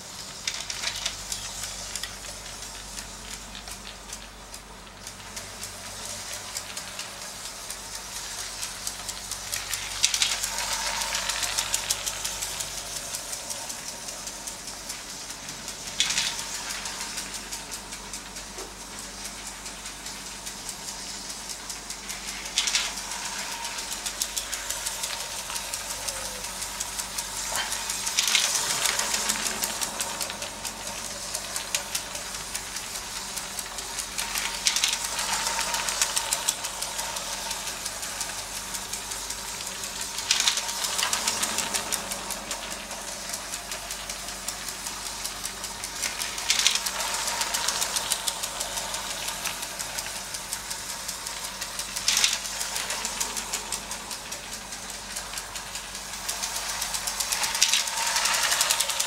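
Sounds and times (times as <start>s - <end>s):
faint motor whine: 0.0s - 59.0s
toy train rattling on track: 0.0s - 59.0s.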